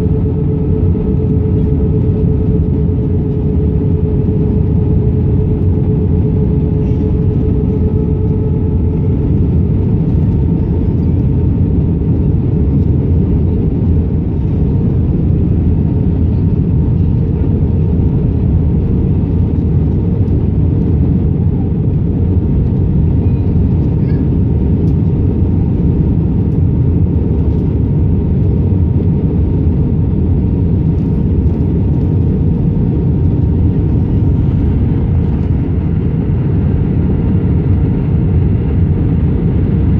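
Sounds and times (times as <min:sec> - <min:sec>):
airplane cabin rumble: 0:00.0 - 0:39.9
faint steady hums: 0:00.0 - 0:39.9.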